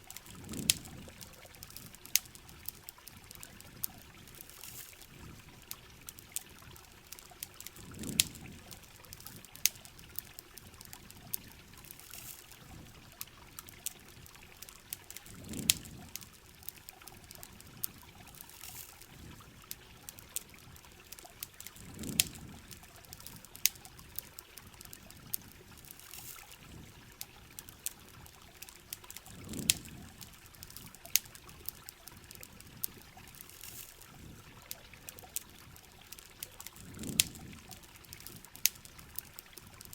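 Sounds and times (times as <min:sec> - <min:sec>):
campfire crackling and popping: 0:00.0 - 0:39.9
steady rain: 0:00.0 - 0:39.9
water pouring and trickling: 0:00.0 - 0:39.9.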